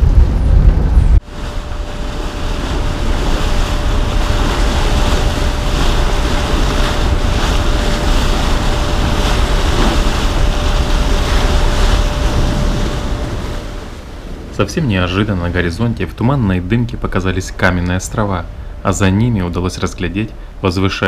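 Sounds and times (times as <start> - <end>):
wind buffeting microphone: 0.0 - 19.4
bow wave splashing along hull: 0.0 - 21.0
ship engine hum: 0.0 - 21.0.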